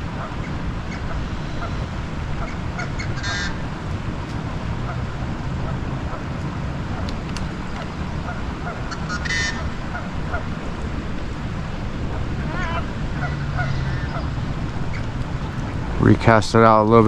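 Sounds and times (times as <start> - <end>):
waterfowl calling: 0.0 - 16.2.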